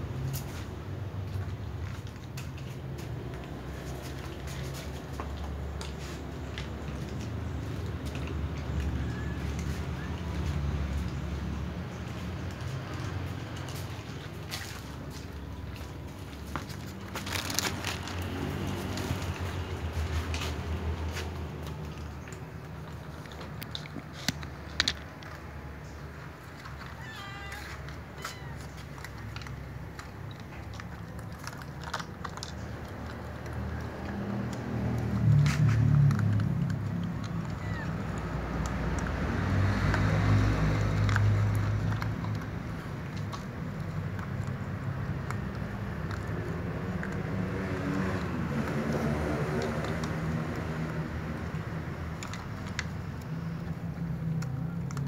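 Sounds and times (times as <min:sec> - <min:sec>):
cats chewing food: 0:00.0 - 0:55.0.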